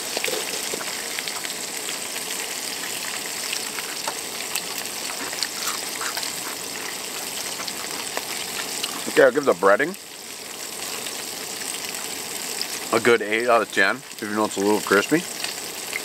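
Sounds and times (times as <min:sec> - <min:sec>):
food frying in hot oil: 0:00.0 - 0:16.0
oil popping and crackling: 0:00.0 - 0:16.0.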